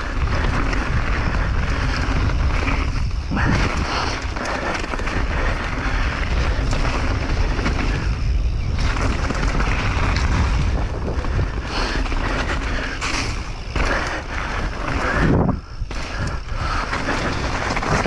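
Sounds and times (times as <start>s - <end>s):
bike tyres rumbling and rattling: 0.0s - 18.0s
wind buffeting microphone: 0.0s - 18.0s.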